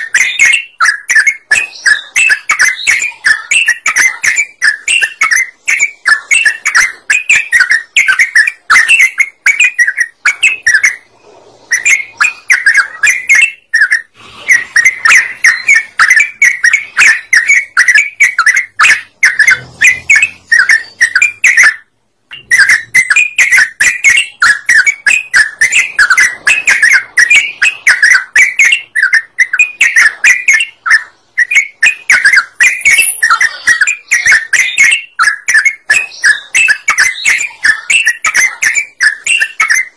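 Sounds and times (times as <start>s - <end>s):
bird singing bubbling chirps: 0.0s - 11.1s, 11.7s - 39.9s.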